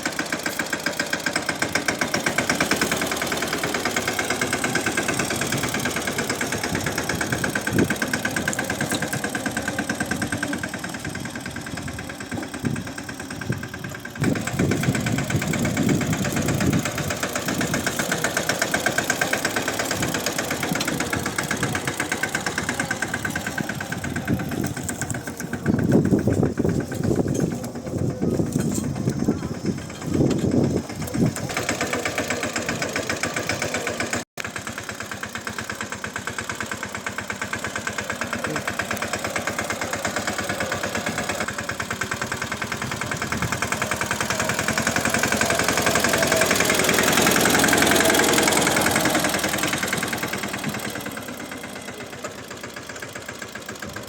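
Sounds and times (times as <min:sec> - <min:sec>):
diesel tractor engine chugging: 0:00.0 - 0:54.0.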